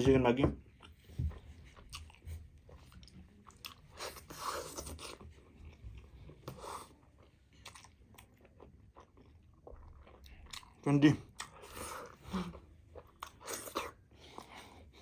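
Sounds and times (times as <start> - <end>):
chewing and biting dumplings: 0.7 - 15.0.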